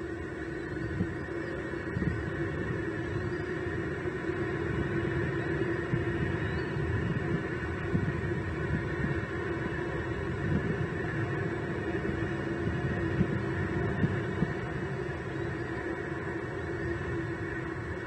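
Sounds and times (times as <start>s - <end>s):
steady hum: 0.0s - 18.0s
uneven low rumble: 0.0s - 18.0s.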